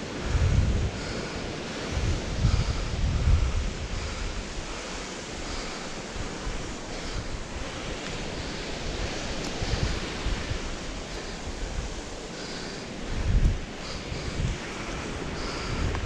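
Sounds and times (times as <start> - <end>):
sea waves on shingle beach: 0.0 - 16.0
wind rumbling on microphone: 0.0 - 16.0.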